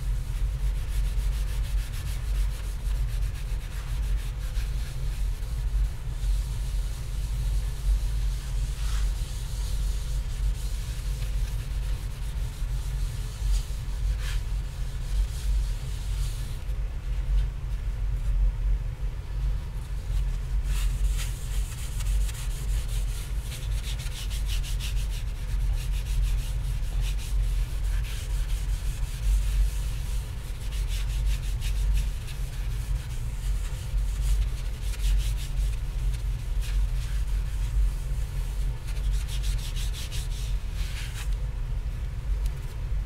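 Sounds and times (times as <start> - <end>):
rubbing strokes on copper plate: 0.0 - 16.6, 19.9 - 41.4
steady low hum: 0.0 - 43.0.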